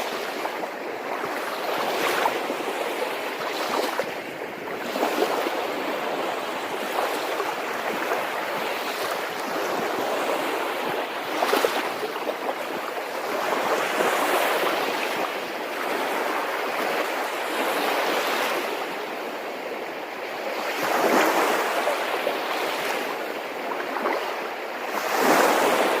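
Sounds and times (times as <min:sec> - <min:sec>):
waves washing in: 0:00.0 - 0:26.0.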